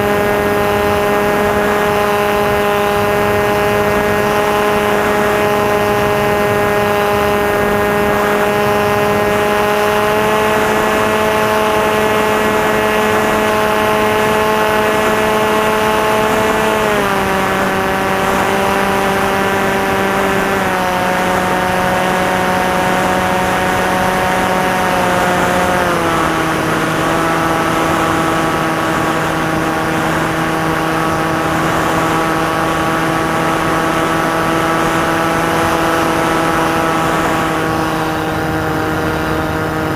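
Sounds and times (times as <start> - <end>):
electric motor and propeller humming: 0.0 - 39.9.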